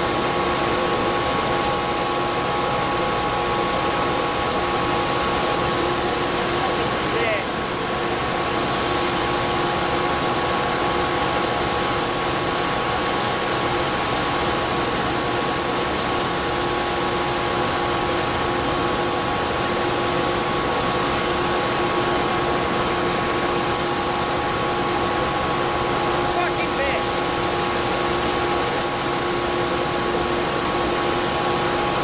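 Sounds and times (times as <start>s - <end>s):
fan running with loud drone: 0.0s - 32.0s.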